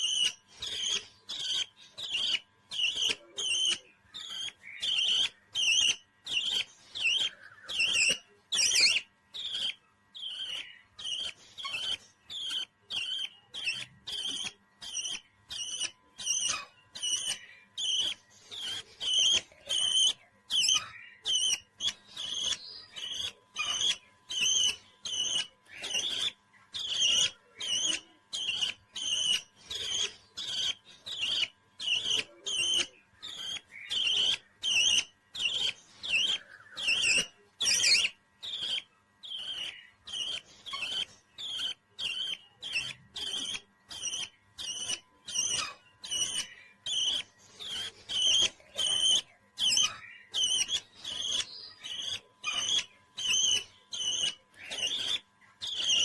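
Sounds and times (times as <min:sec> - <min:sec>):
parrot chirping calls: 0:00.0 - 0:56.0.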